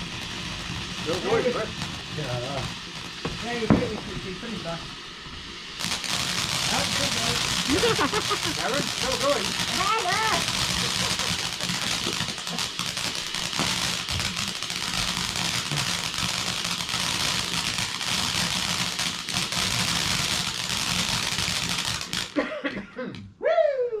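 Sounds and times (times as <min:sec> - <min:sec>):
firework hissing and crackling: 0:00.0 - 0:22.6.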